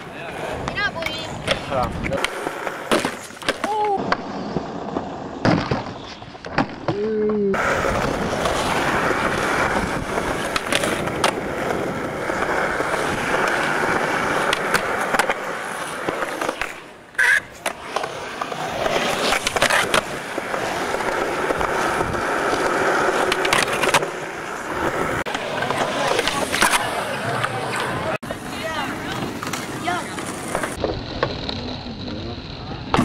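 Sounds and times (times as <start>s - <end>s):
skateboard clacks: 0.0s - 33.0s
skateboard wheels rolling on concrete: 0.0s - 33.0s.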